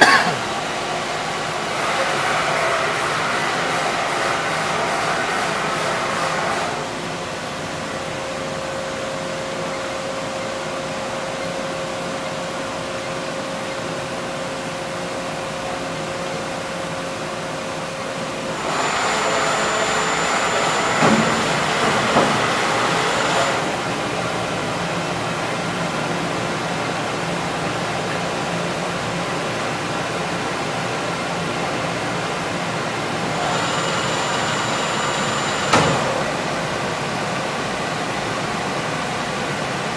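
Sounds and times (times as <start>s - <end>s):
machining center humming and whining: 0.0s - 39.9s.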